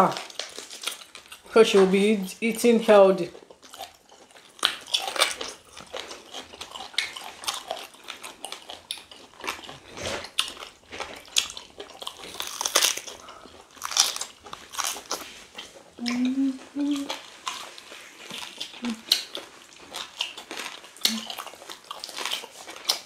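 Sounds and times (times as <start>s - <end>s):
people chewing meat: 0.0s - 23.0s.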